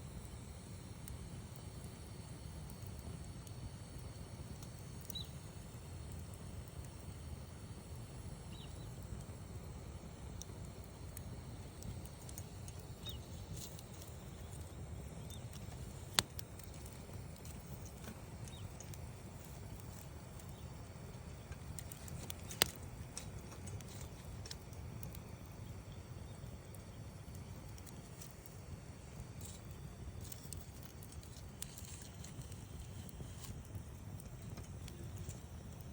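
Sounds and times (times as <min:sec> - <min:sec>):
campfire flames crackling: 0:00.0 - 0:35.9
sharp pops of burning wood: 0:00.1 - 0:35.9.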